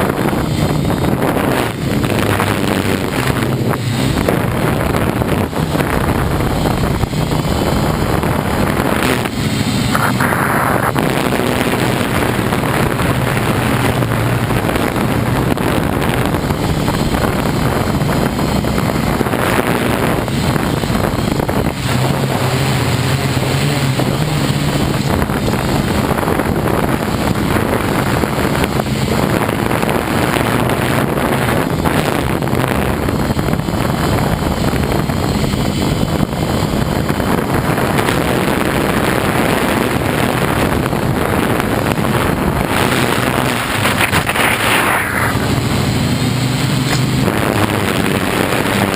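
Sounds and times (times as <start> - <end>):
drone propellers humming: 0.0 - 48.9
wind buffeting microphone: 0.0 - 48.9.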